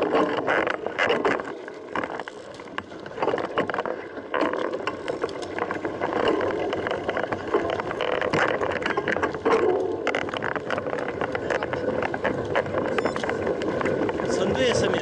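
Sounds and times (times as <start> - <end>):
bike rattling and clicking: 0.0 - 15.0
bike tyres rolling: 0.0 - 15.0.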